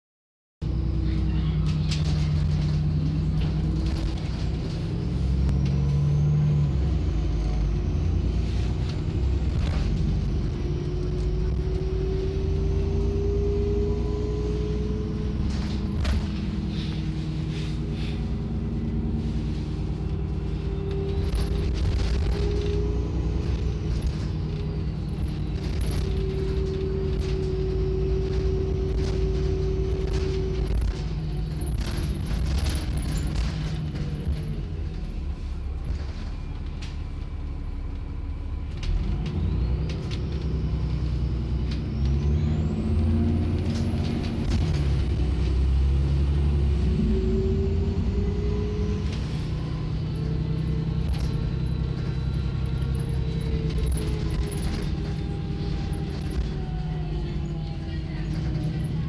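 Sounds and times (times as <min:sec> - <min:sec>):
bus engine rumble: 0:00.6 - 0:59.0
bus body rattles and clicks: 0:00.7 - 0:59.0
humming tone rising: 0:00.7 - 0:59.0.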